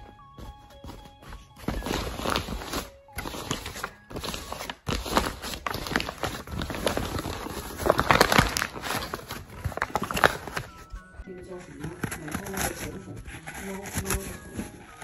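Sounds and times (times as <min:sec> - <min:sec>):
plastic bags and paper rustling: 0:00.0 - 0:15.0.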